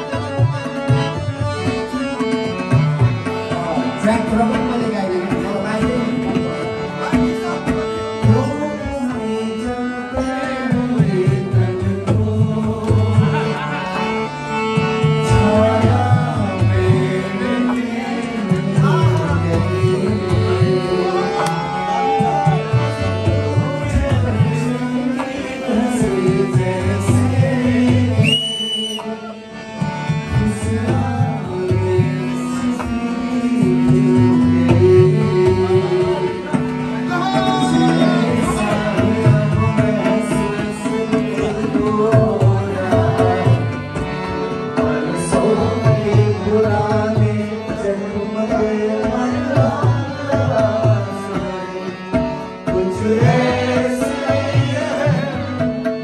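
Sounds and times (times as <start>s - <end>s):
harmonium chords: 0.0s - 56.0s
man singing: 0.0s - 56.0s.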